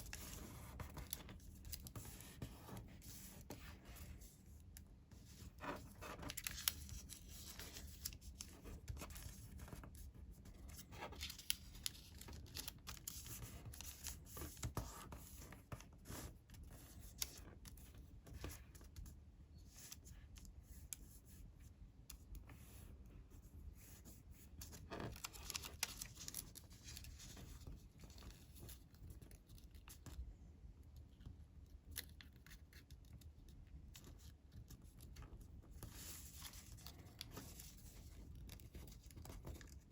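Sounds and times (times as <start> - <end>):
paper rustling and creasing: 0.0 - 19.0, 23.8 - 30.2, 31.9 - 39.9.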